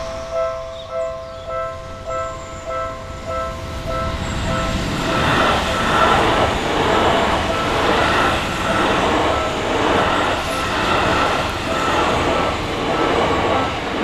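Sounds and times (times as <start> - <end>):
electric train passing: 0.0 - 14.0
wheels rumbling on rail: 0.0 - 14.0.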